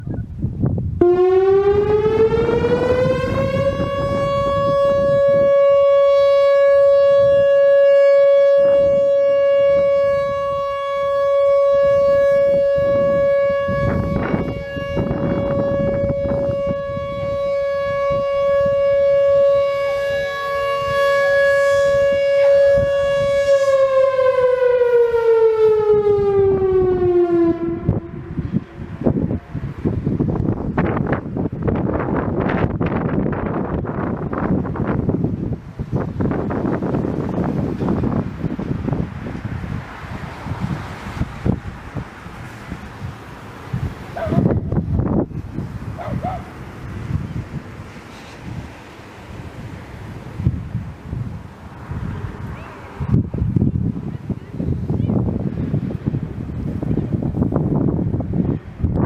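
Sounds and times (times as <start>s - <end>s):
outdoor warning siren: 0.0s - 59.0s.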